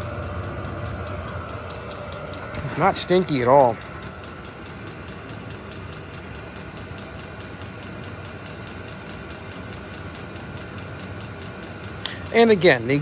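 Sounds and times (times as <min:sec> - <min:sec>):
fuel pump ticking: 0:00.0 - 0:13.0
heater blower and burner noise: 0:00.0 - 0:13.0.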